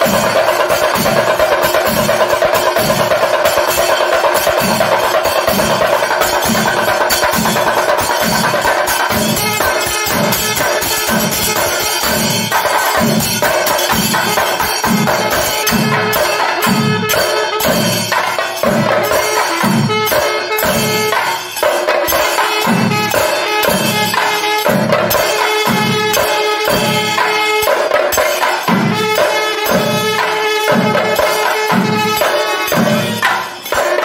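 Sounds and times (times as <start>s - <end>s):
drums beaten with sticks: 0.0s - 34.0s.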